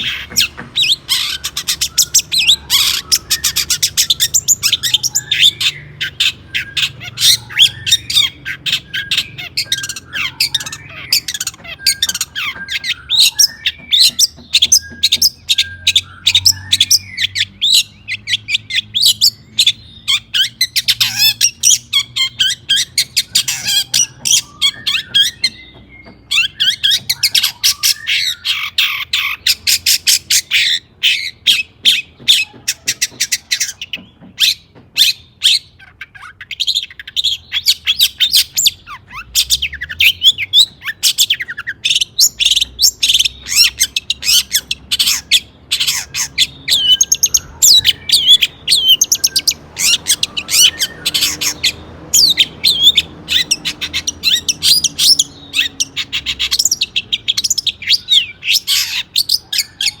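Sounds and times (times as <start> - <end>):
bird chattering song: 0.0 - 60.0.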